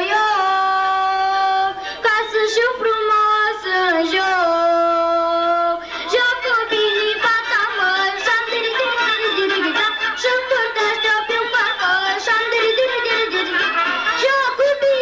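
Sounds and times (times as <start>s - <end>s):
children singing a folk song: 0.0s - 15.0s.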